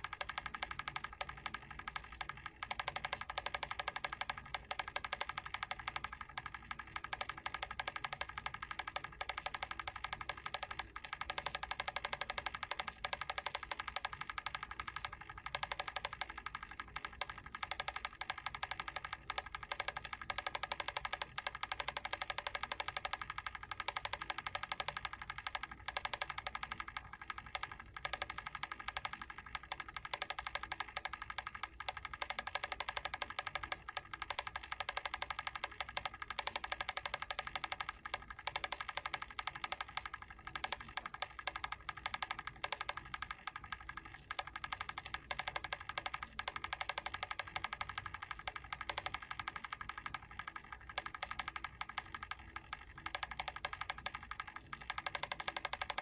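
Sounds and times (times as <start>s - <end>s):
mechanical timer ticking: 0.0s - 56.0s.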